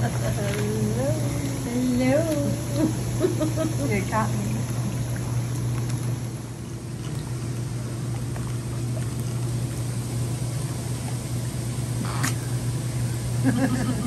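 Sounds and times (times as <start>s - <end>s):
bubbling churned water: 0.0s - 14.0s
pump motor hum: 0.0s - 14.0s.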